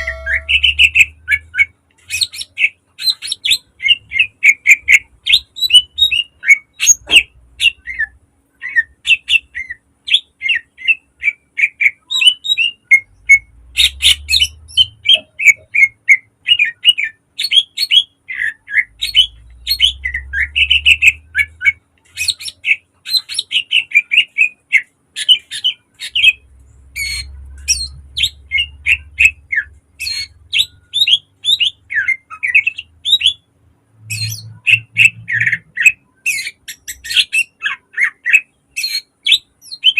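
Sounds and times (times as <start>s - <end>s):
bird chirping and whistling: 0.0s - 26.4s, 27.0s - 33.5s, 34.1s - 39.9s.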